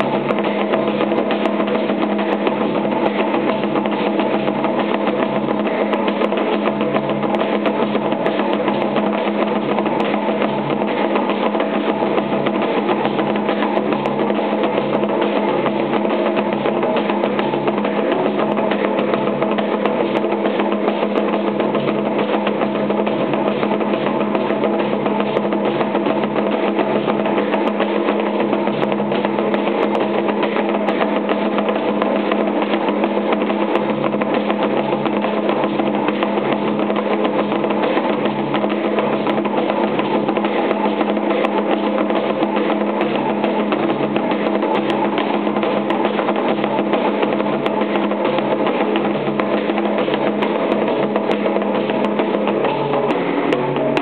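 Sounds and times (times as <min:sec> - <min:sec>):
barrel hand drums: 0:00.0 - 0:54.0.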